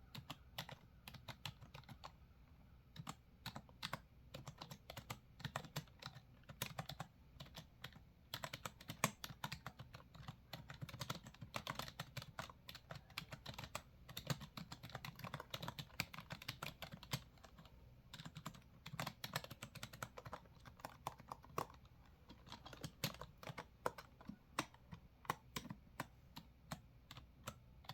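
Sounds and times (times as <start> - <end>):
computer keyboard typing: 0.1 - 2.2, 2.9 - 27.9.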